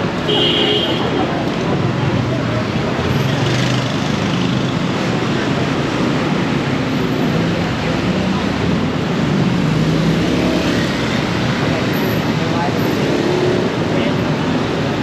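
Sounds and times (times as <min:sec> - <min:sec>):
loud road noise: 0:00.0 - 0:15.0.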